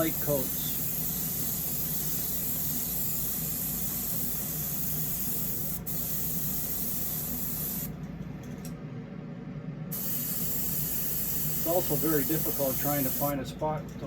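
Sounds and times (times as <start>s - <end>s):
airbrush spraying hiss: 0.0s - 7.9s, 9.9s - 13.4s.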